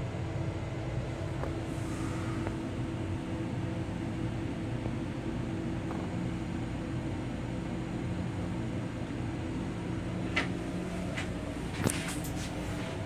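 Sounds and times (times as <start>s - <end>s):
railcar equipment humming: 0.0s - 13.0s.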